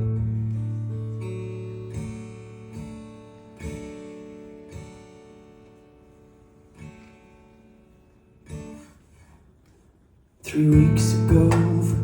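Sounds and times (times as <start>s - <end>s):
acoustic guitar chords plucked: 0.0s - 8.9s, 10.4s - 12.0s.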